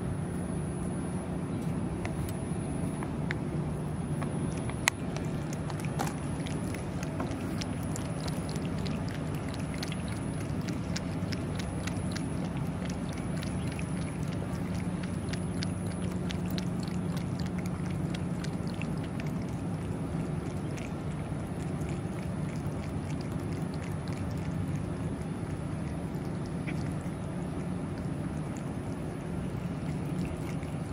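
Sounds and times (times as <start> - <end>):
low background hum: 0.0 - 30.9
cat eating wet food: 2.0 - 30.9.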